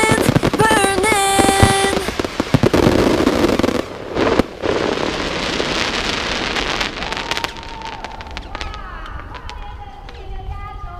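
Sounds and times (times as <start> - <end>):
fireworks crackling: 0.0 - 10.9.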